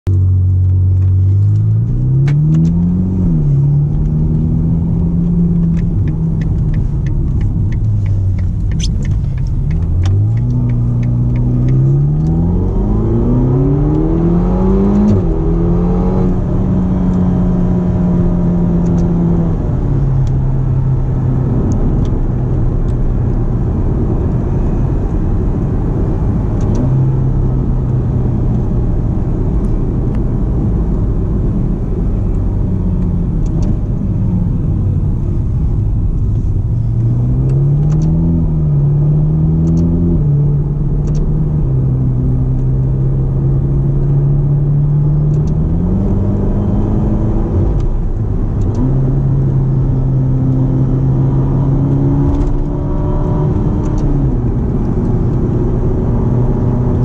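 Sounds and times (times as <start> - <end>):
car engine revving: 0.1 - 57.0
tyre and road noise: 0.1 - 57.0.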